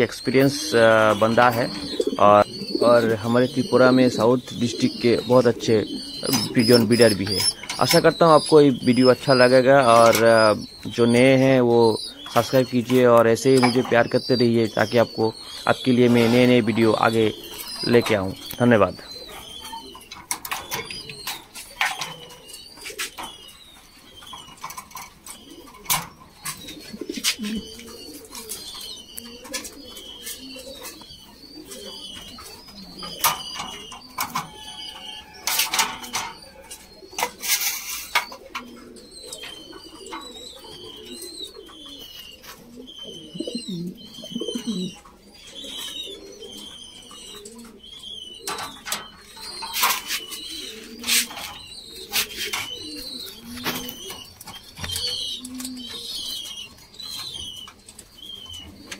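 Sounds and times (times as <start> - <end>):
pigeons cooing: 0.0 - 58.9.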